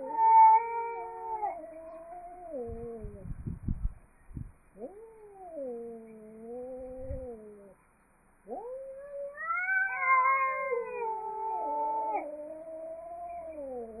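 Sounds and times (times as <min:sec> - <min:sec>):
cats yowling: 0:00.0 - 0:03.2, 0:04.8 - 0:07.8, 0:08.5 - 0:14.0.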